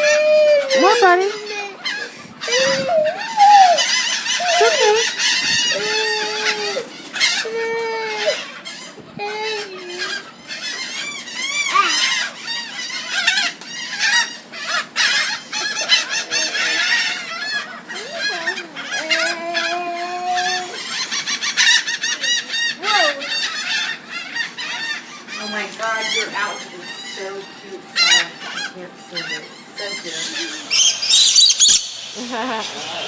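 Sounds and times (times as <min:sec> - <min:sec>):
flock of birds chirping and honking: 0:00.0 - 0:07.6, 0:08.3 - 0:33.0.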